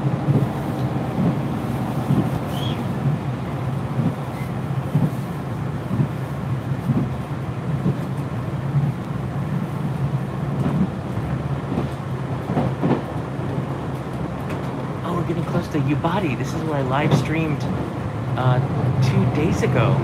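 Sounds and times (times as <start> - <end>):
train running rumble: 0.0 - 20.0
wheels clacking on rails: 0.0 - 20.0.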